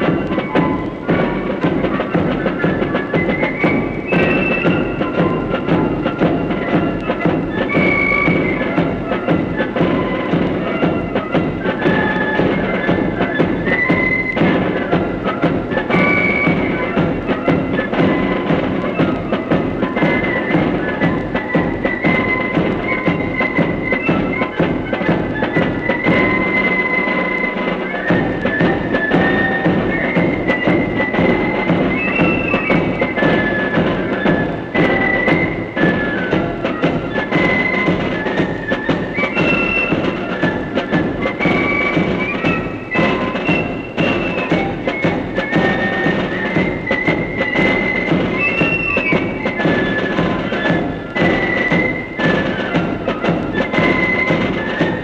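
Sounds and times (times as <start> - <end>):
flutes playing melody: 0.0 - 55.0
rattling side drums: 0.0 - 55.0.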